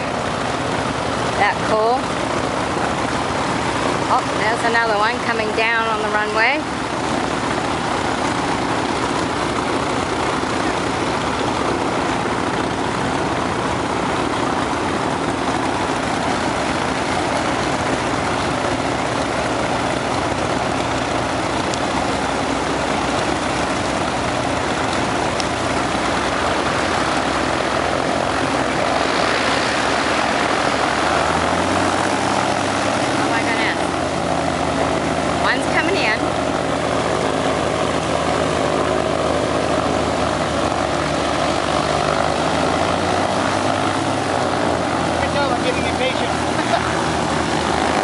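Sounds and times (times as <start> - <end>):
jet engines roaring: 0.0 - 48.0
low hum: 0.0 - 48.0.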